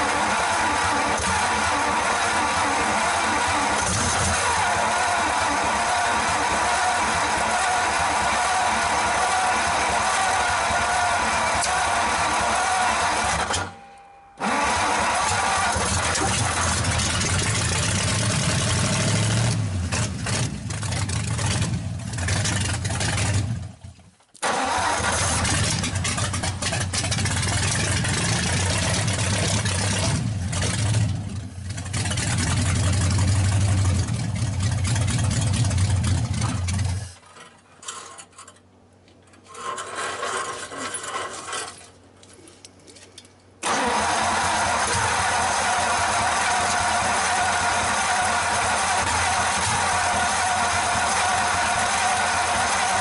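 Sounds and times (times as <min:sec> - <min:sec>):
loud unmuffled engine running: 0:00.0 - 0:13.8, 0:14.4 - 0:23.9, 0:24.5 - 0:37.2, 0:43.6 - 0:53.0.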